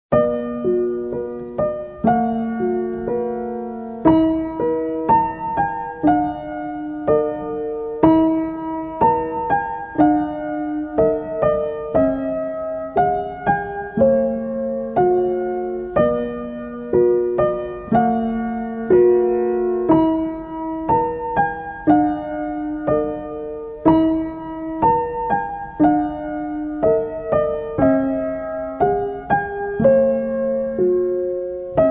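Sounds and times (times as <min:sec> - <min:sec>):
piano melody: 0:00.1 - 0:31.9.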